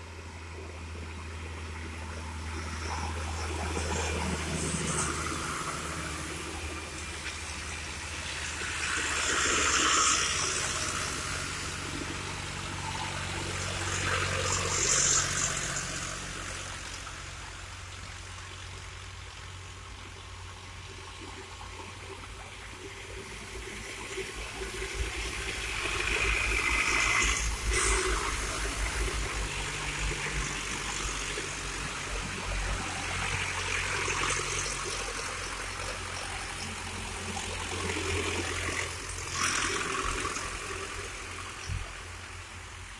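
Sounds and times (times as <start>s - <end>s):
tractor engines labouring: 0.0s - 42.9s.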